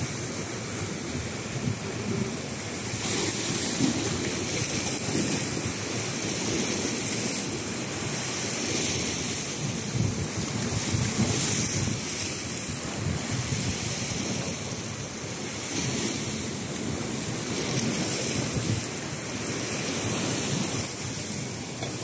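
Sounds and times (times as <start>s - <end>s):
sea waves breaking on rocks: 0.0s - 22.0s
wind buffeting microphone: 0.0s - 22.0s.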